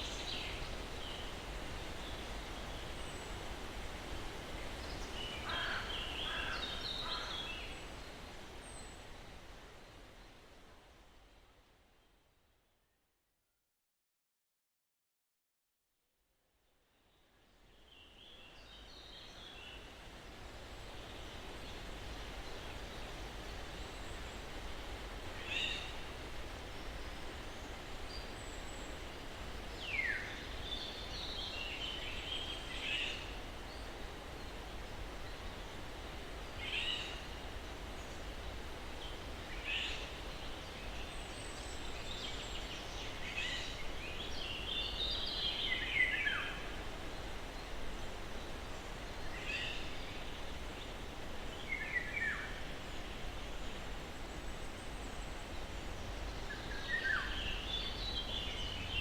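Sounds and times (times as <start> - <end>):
breeze rustling pine trees: 0.0 - 12.3, 17.0 - 59.0.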